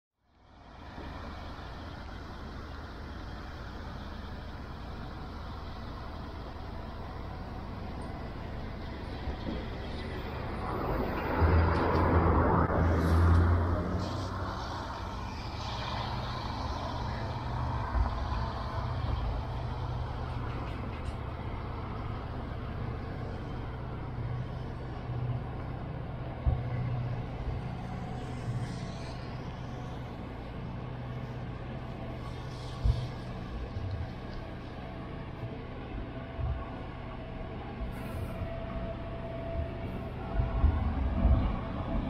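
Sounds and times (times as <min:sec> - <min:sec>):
train wheels rumbling on rail: 0:00.4 - 0:42.0.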